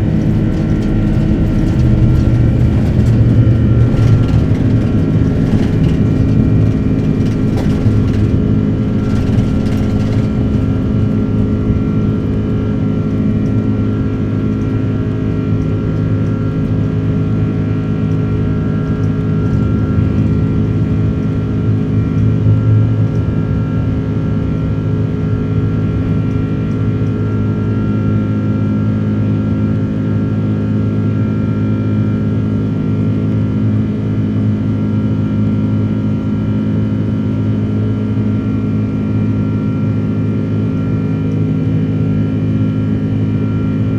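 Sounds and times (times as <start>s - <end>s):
jet engines droning in cabin: 0.0s - 43.9s.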